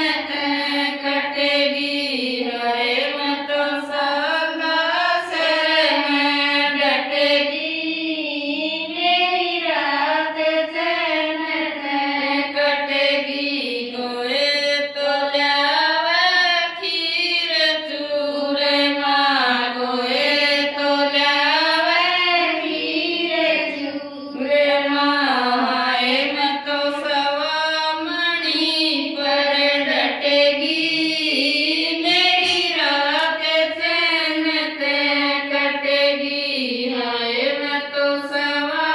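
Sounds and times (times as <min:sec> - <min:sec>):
women singing devotional song: 0:00.0 - 0:38.9.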